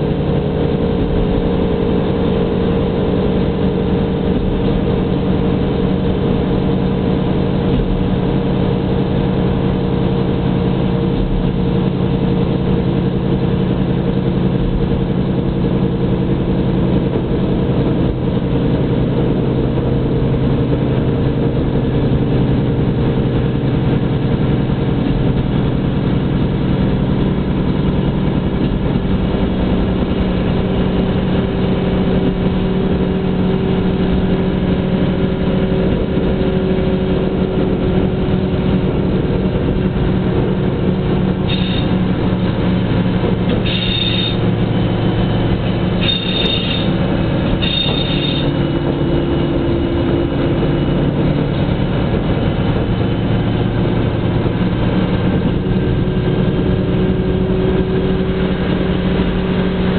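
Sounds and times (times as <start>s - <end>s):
diesel engine running: 0.0s - 59.9s
train wheels rumbling on rails: 0.0s - 59.9s.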